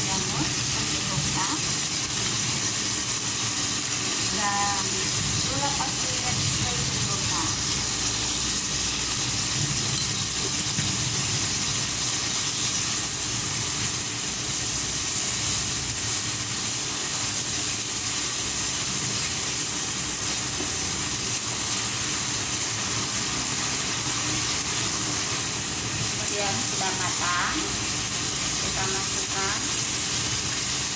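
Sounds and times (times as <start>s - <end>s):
food sizzling in oil: 0.0s - 30.9s.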